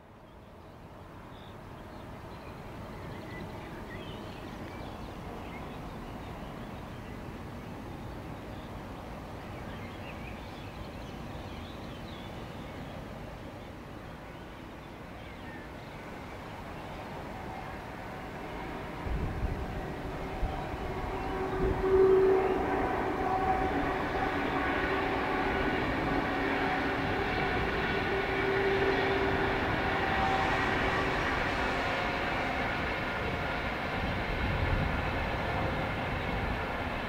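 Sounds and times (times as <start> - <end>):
distant train rumble: 0.0 - 37.0.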